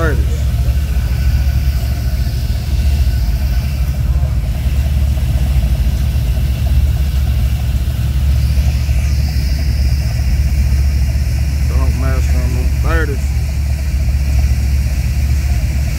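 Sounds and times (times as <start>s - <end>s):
car engines idling rumble: 0.0s - 15.9s.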